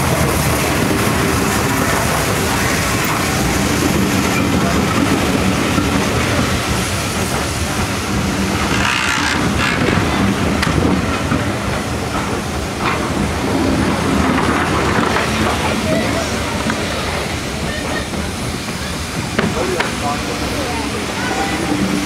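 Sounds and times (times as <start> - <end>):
steam hissing: 0.0 - 22.0
train wheels clattering on rails: 0.0 - 22.0.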